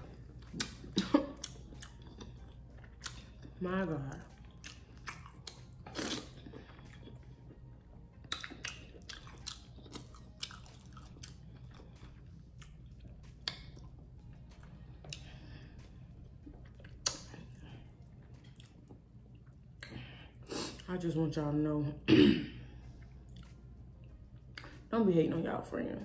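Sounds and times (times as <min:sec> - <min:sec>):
chewing with wet mouth smacks: 0:00.0 - 0:20.1, 0:23.0 - 0:24.8.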